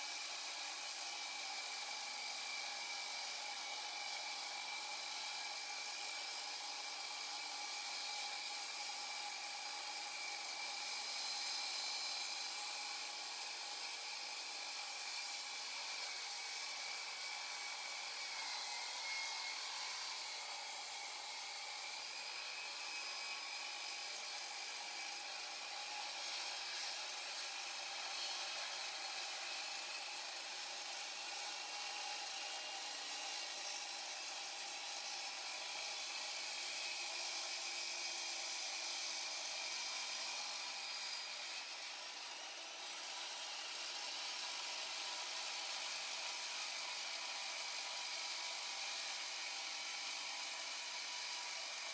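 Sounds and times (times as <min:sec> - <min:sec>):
electric saw cutting concrete: 0:00.0 - 0:51.9.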